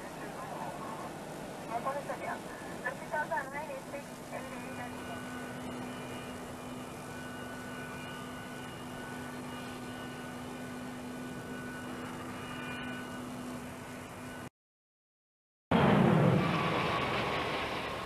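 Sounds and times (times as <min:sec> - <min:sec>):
aircraft engine drone: 0:00.0 - 0:14.5, 0:15.7 - 0:18.0.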